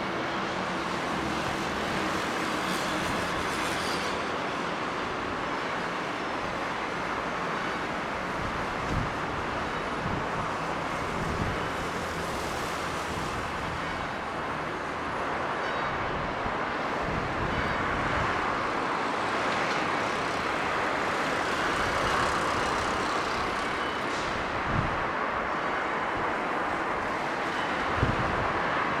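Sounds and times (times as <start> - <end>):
passing traffic: 0.0 - 29.0.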